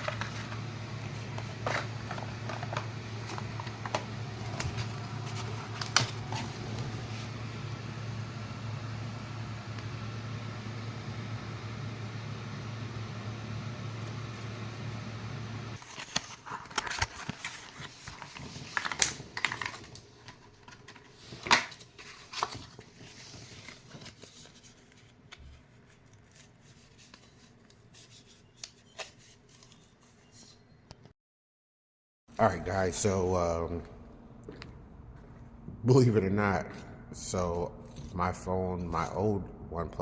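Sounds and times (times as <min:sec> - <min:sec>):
steady low hum: 0:00.0 - 0:29.3, 0:32.3 - 0:40.0.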